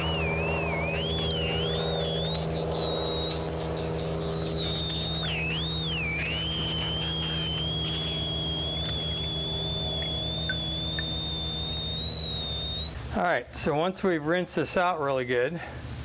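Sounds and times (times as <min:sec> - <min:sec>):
electrical hum: 0:00.0 - 0:16.0
high-pitched whine: 0:00.0 - 0:16.0.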